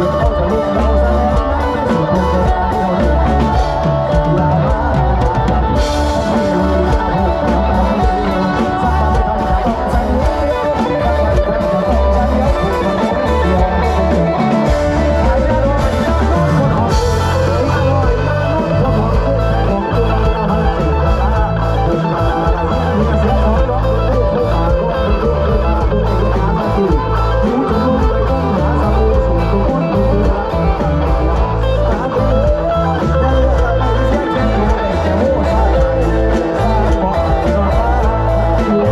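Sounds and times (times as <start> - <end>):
live band music: 0.0 - 38.9.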